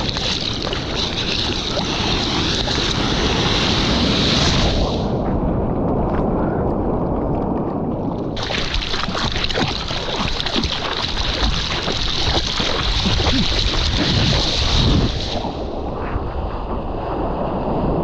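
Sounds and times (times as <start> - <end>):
seawater rushing and splashing: 0.0 - 5.2, 8.4 - 18.0.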